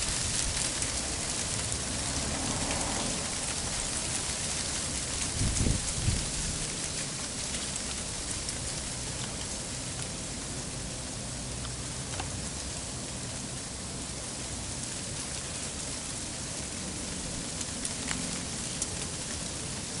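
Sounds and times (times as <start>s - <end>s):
freezing rain hiss: 0.0s - 20.0s.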